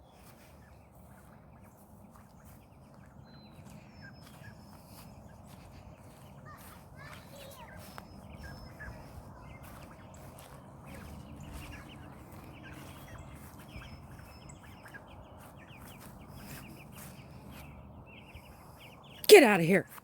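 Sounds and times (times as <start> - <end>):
chickens clucking: 1.0 - 19.0.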